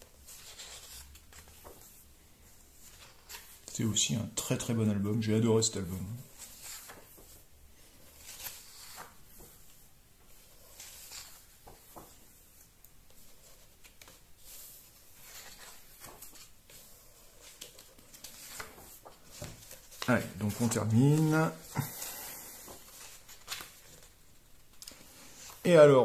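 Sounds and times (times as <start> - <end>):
pages turning: 0.0 - 3.8, 5.8 - 25.9.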